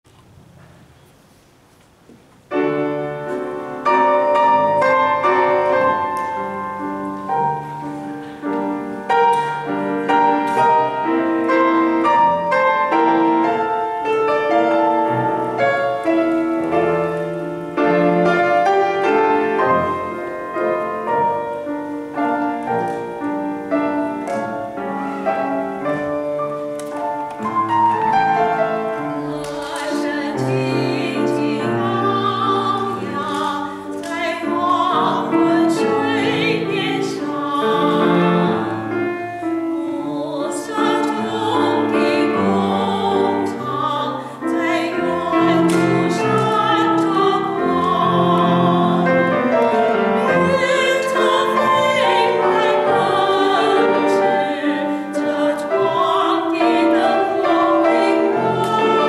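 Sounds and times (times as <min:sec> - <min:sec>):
piano melody over chords: 0:02.5 - 0:59.0
women's choir singing: 0:02.5 - 0:59.0.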